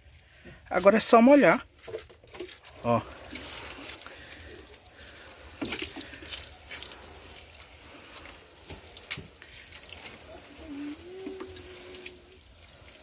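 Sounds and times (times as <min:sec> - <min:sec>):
water spraying onto plants: 0:02.5 - 0:13.0.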